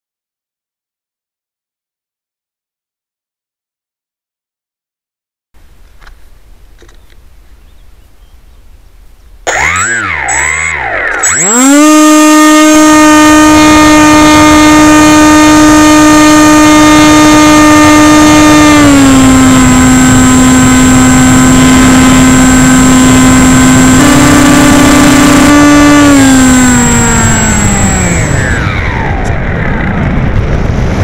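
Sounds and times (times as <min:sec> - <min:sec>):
electric motor and propeller whine: 0:05.8 - 0:31.0.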